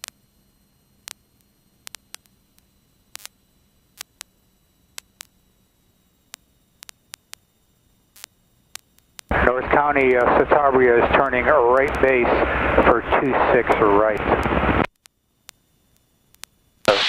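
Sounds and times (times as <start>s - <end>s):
faint low hum: 0.0s - 17.0s
radio static clicks: 0.0s - 17.0s.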